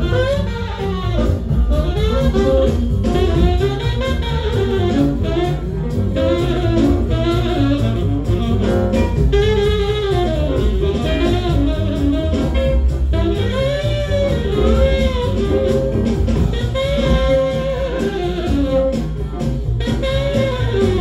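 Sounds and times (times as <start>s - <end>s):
jazz rhythm section: 0.0s - 21.0s
jazz tenor saxophone: 0.0s - 21.0s.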